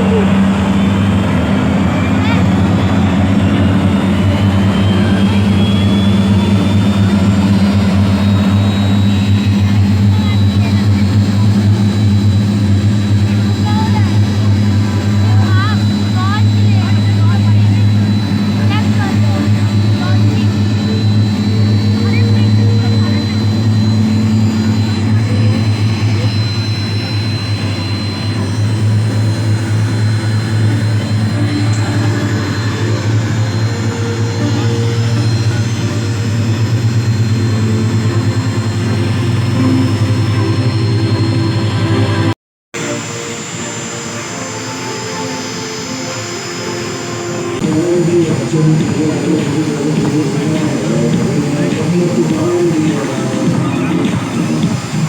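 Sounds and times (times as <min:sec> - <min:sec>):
aircraft engines droning: 0:00.0 - 0:55.0
high whine rising in pitch: 0:00.0 - 0:55.0.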